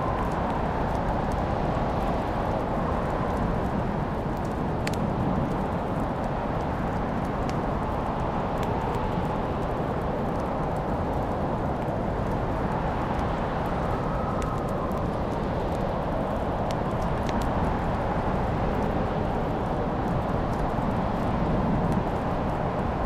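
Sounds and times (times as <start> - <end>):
low rushing fire sound: 0.0 - 23.0
wood fire crackling: 0.0 - 23.0.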